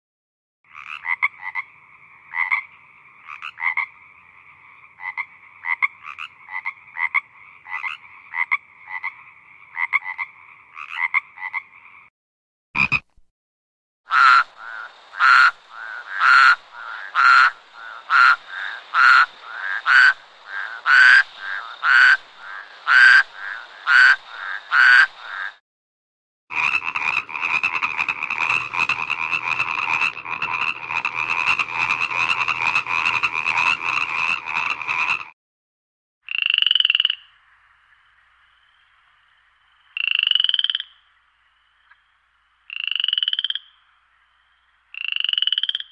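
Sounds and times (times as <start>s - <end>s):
frog trilling chorus: 0.7s - 12.1s, 14.1s - 25.6s, 26.5s - 35.3s, 36.3s - 45.9s
frogs croaking: 0.7s - 12.1s, 12.8s - 13.0s, 14.1s - 25.6s, 26.5s - 35.3s, 36.2s - 45.9s.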